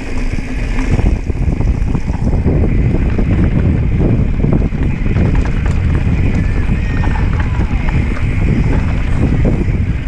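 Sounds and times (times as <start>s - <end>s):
bike rattling and knocking: 0.0s - 10.0s
bike tyres rumbling on dirt: 0.0s - 10.0s
wind buffeting microphone: 0.0s - 10.0s.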